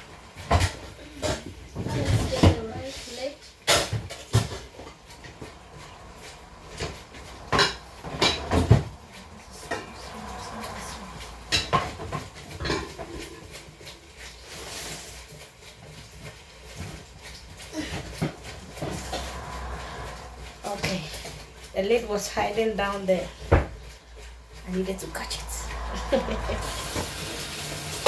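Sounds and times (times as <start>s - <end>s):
crockery and pots clattering: 0.0s - 28.0s.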